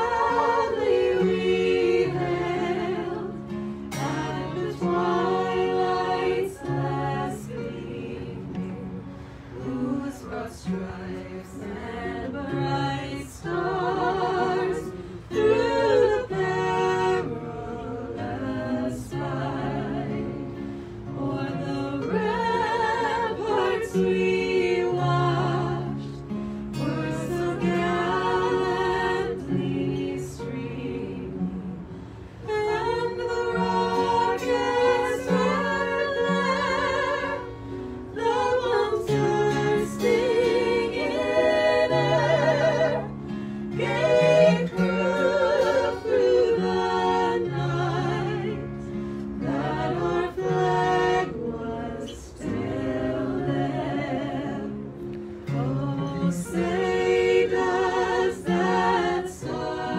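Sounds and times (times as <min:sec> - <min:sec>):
acoustic guitar: 0:00.0 - 0:59.9
group singing: 0:00.0 - 0:59.9.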